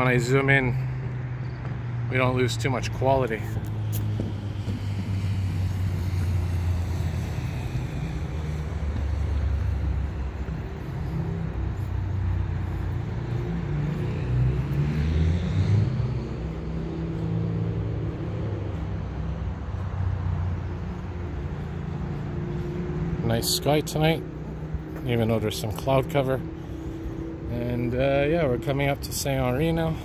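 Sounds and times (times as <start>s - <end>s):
highway traffic rumble: 0.0s - 30.0s.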